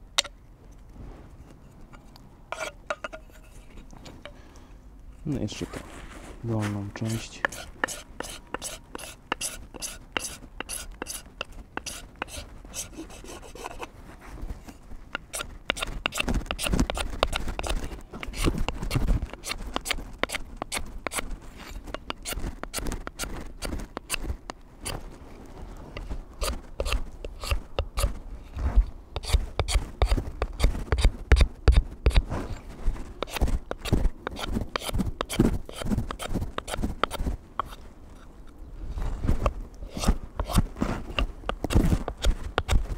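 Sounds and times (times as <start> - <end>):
blade scraping wood: 1.5 - 3.9, 6.0 - 13.9, 14.6 - 25.1, 25.9 - 42.9.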